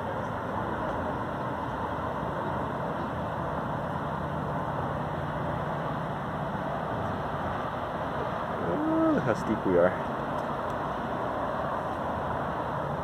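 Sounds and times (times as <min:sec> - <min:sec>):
distant freeway traffic: 0:00.0 - 0:13.0
low engine hum: 0:00.0 - 0:13.0.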